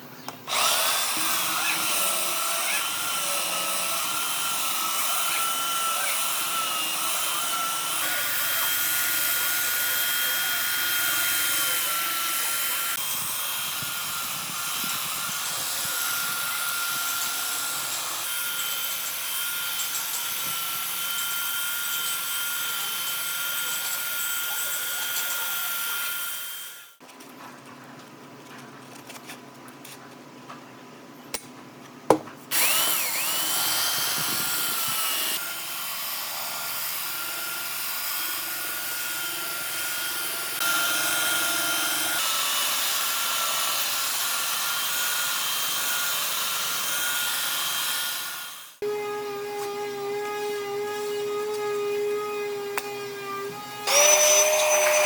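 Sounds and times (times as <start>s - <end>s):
lower-pitched power tool: 0.5s - 27.0s, 32.5s - 55.0s
power tool motor whining: 0.5s - 27.0s, 32.5s - 55.0s.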